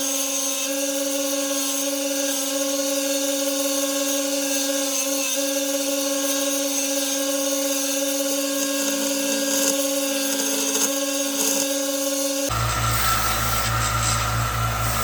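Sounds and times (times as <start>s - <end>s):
belt sander running: 0.0s - 15.0s
wood grinding against sanding belt: 0.3s - 15.0s.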